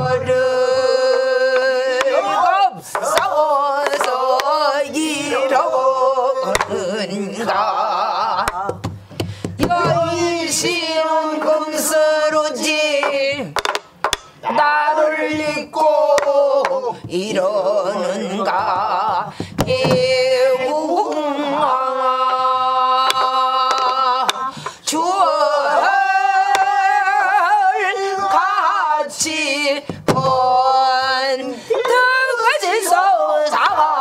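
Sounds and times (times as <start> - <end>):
group singing with vibrato: 0.0 - 34.0.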